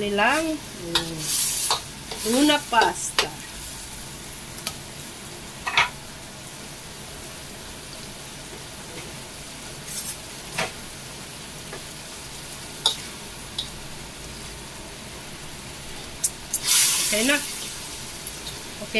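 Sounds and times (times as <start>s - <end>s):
pasta sizzling in a wok: 0.0s - 18.9s.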